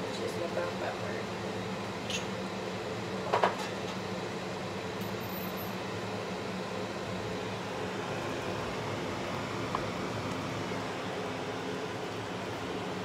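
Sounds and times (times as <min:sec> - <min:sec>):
extractor fan humming: 0:00.0 - 0:13.0.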